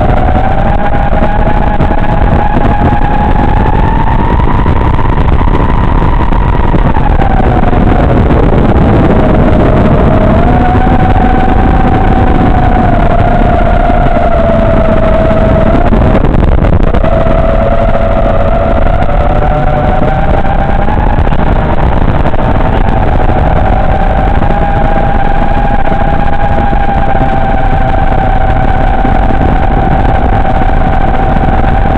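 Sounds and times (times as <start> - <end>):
drone motors whining: 0.0 - 31.9
low rush of air noise: 0.0 - 31.9.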